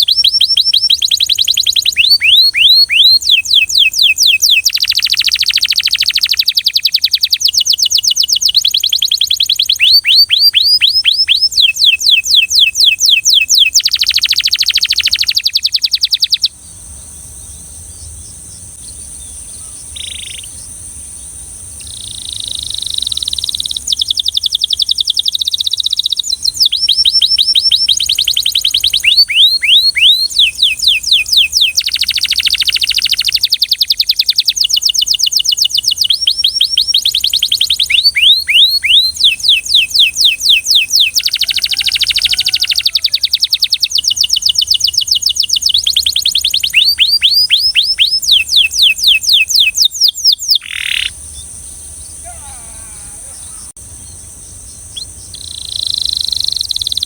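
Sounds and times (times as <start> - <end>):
canary singing: 0.0 - 16.7, 17.4 - 20.8, 21.8 - 57.0.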